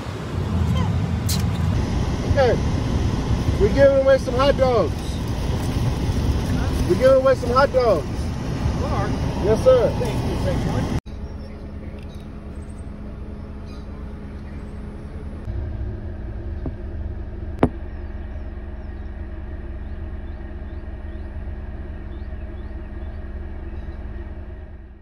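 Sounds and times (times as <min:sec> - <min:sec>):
car engine rumble inside cabin: 0:00.0 - 0:25.0.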